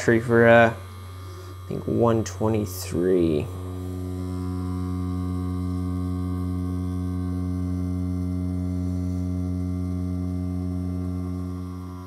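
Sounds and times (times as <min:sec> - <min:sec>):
tattoo pen buzzing: 0:00.0 - 0:12.0.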